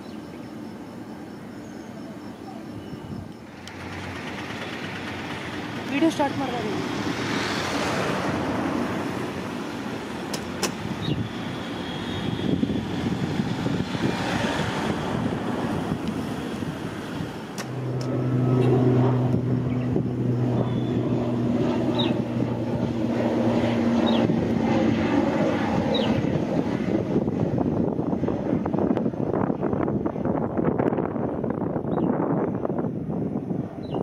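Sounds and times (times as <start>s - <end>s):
low engine drone: 0.0s - 34.0s
traffic rumble: 0.0s - 34.0s
wind: 0.0s - 34.0s.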